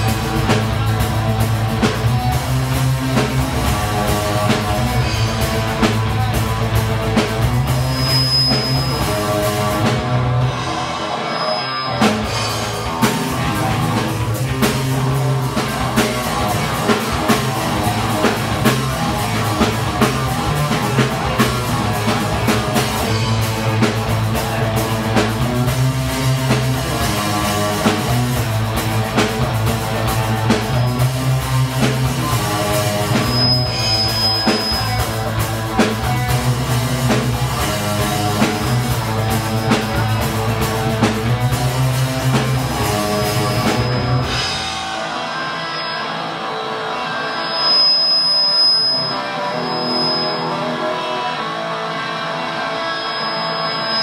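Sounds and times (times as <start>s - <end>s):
drum kit beat: 0.0s - 11.3s, 11.9s - 45.4s
electric guitar: 0.0s - 54.0s
rock band playing: 0.0s - 54.0s.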